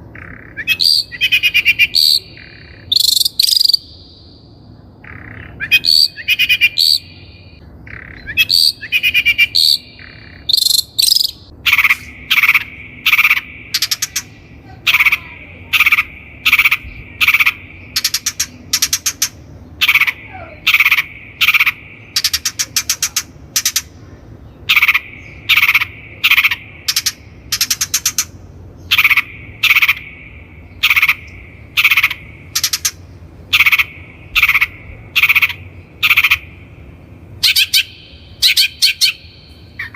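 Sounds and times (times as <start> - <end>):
bird harsh rasping calls: 0.0 - 4.4, 5.0 - 39.9.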